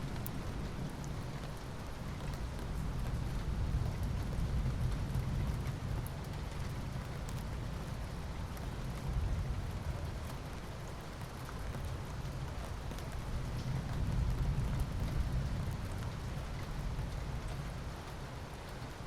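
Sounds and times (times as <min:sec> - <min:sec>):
faint raindrop ticks: 0:00.0 - 0:19.0
steady rain hiss: 0:00.0 - 0:19.0.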